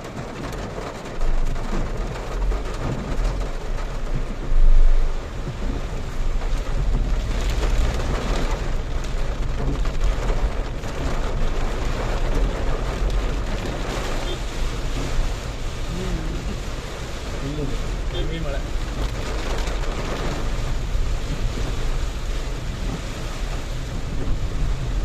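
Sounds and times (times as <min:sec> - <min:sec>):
car rumbling on wet road: 0:00.0 - 0:25.0
heavy rain on a car: 0:00.0 - 0:25.0.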